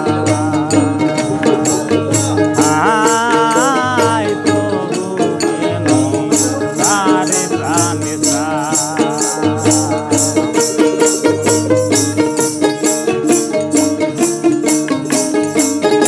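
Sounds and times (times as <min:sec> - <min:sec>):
bowed fiddle melody: 0:00.0 - 0:16.0
plucked lute notes: 0:00.0 - 0:16.0
shaken rattle: 0:00.0 - 0:16.0.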